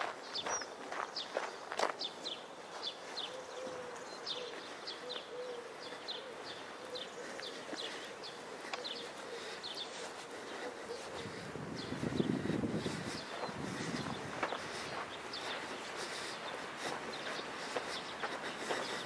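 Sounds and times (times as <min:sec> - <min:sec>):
footsteps: 0:00.0 - 0:03.3, 0:03.9 - 0:19.0
songbird chirping: 0:00.0 - 0:19.0.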